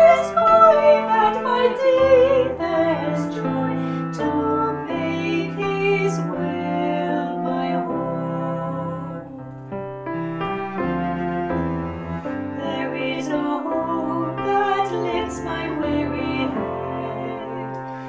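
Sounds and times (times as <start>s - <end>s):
hymn piano music: 0.0s - 18.0s.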